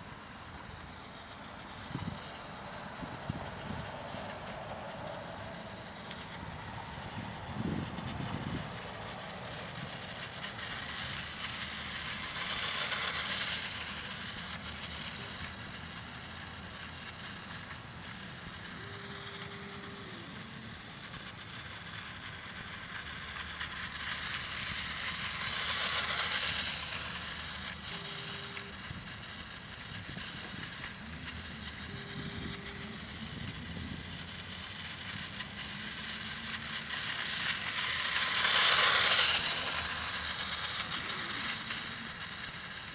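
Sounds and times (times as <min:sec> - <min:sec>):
toy train running on plastic track: 0:00.0 - 0:42.9.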